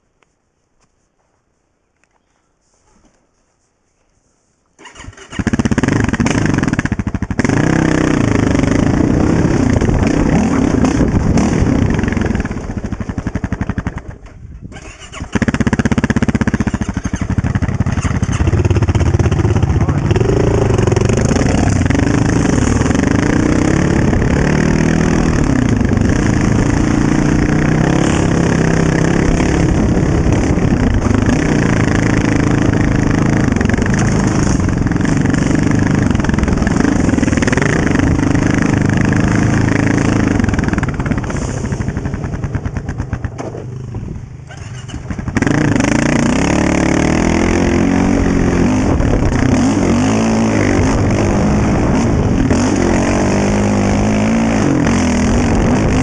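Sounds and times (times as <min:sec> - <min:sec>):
atv engine revving: 0:04.8 - 0:56.0.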